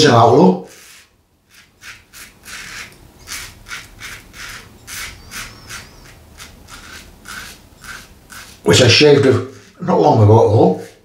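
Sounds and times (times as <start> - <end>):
razor scraping stubble: 0.6 - 11.0.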